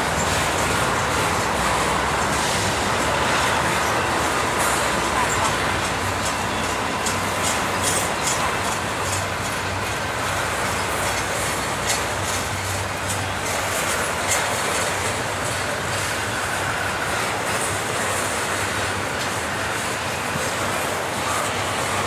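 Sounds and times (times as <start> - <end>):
steel wheels on rail: 0.0 - 22.0.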